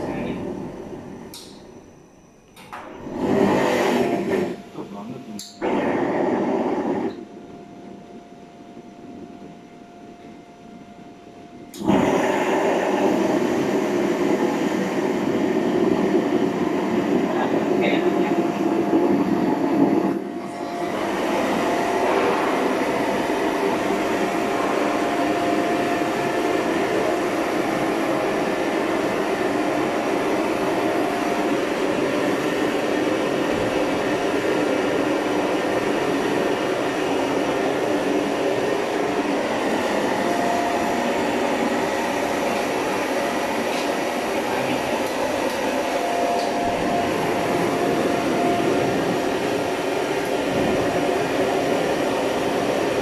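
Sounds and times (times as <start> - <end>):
gas burner rushing: 0.0 - 53.0.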